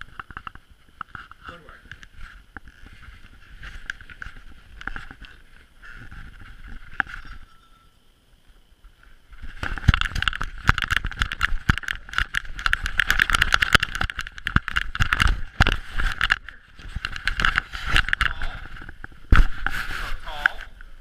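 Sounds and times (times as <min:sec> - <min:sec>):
camera knocking and rubbing: 0:00.0 - 0:07.5, 0:09.3 - 0:20.6.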